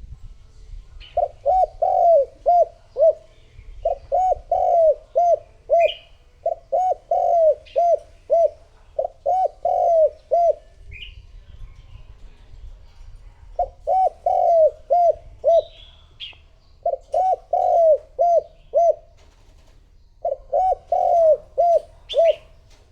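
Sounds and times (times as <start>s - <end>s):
dove cooing: 1.0s - 11.2s, 13.5s - 22.9s.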